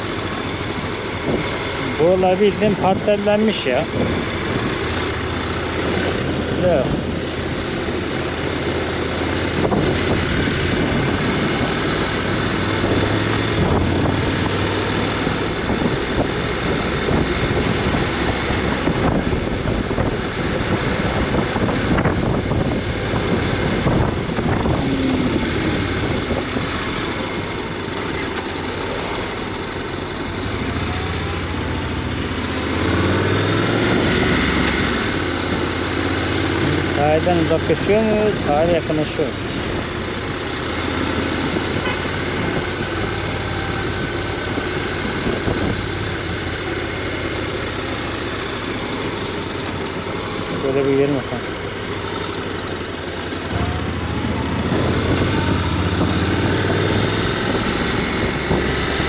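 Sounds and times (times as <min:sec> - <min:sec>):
wind rushing over microphone: 0:00.0 - 0:27.8, 0:31.8 - 0:59.0
motorcycle engine running: 0:00.0 - 0:59.0.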